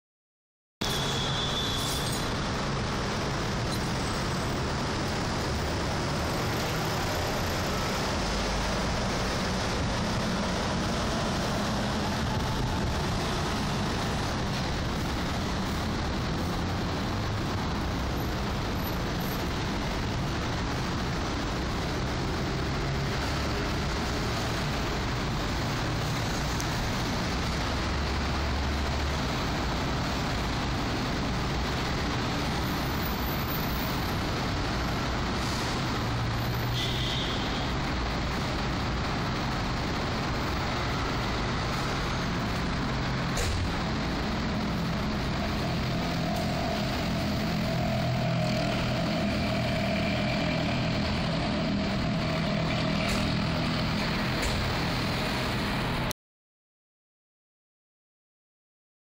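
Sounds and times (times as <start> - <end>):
road traffic: 0.8 - 56.1.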